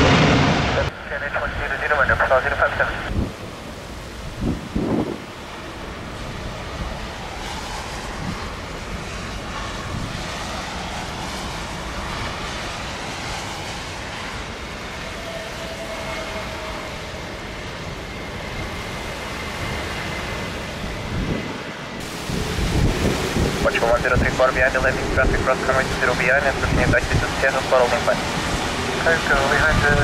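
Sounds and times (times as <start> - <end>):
high engine whine: 0.0 - 30.0
jet engines of landing airliner: 0.0 - 30.0
wind and rain on microphone: 0.8 - 15.0, 18.5 - 30.0.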